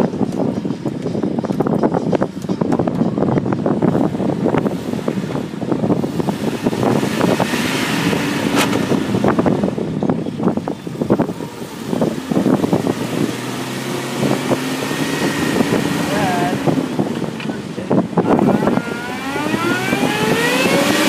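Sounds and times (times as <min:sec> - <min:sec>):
vehicle engine low hum: 0:00.0 - 0:21.0
wind buffeting microphone: 0:00.0 - 0:21.0.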